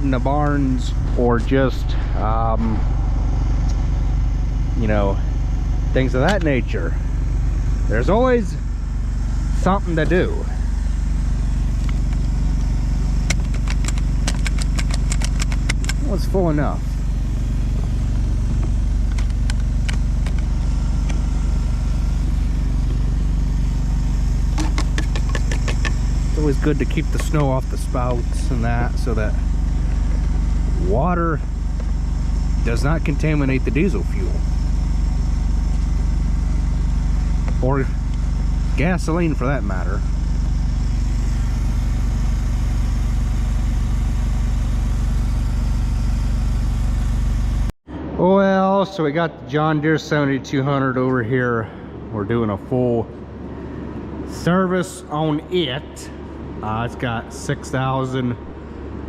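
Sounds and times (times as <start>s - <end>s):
engine idling: 0.0s - 47.7s.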